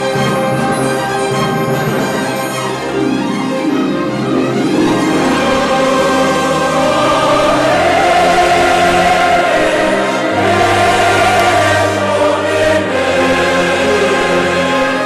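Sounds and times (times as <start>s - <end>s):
choir singing sustained chords: 0.0s - 15.0s
orchestra playing: 0.0s - 15.0s.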